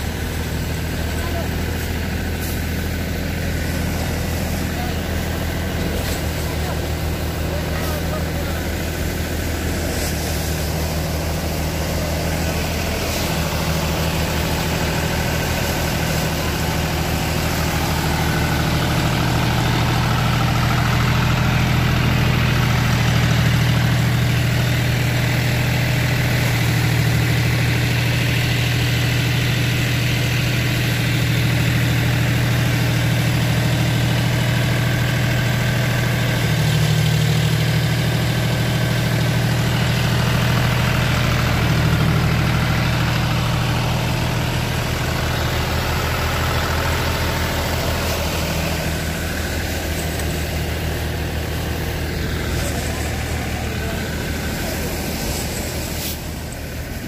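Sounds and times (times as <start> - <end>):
thresher mechanical drone: 0.0 - 57.0
tractor diesel engine running: 0.0 - 57.0.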